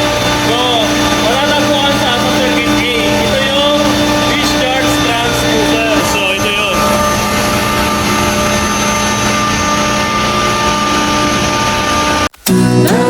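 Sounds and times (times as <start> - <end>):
chiller machinery drone: 0.0 - 12.3.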